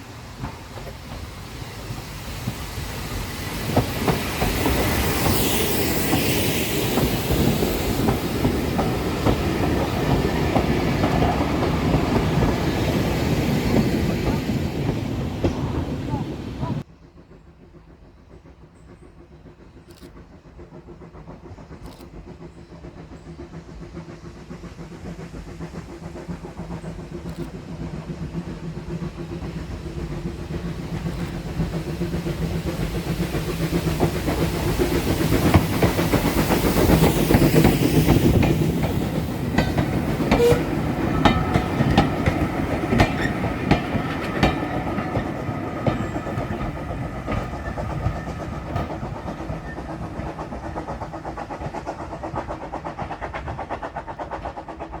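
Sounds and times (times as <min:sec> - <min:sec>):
steam locomotive passing: 0:00.0 - 0:55.0
wheels clicking over rail joints: 0:00.2 - 0:16.8, 0:26.2 - 0:55.0.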